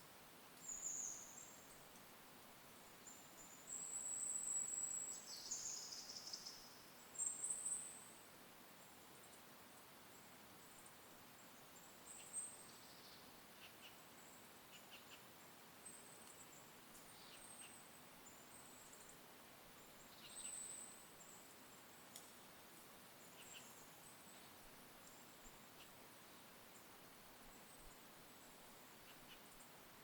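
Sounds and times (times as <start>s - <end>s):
songbirds chirping: 0.5s - 30.0s.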